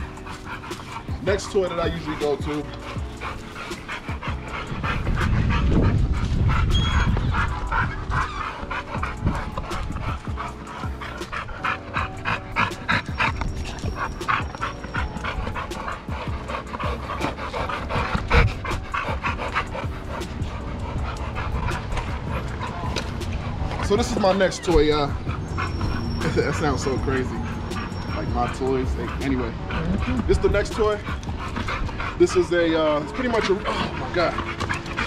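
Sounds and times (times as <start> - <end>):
background music: 0.0 - 35.0
dogs panting: 0.0 - 35.0.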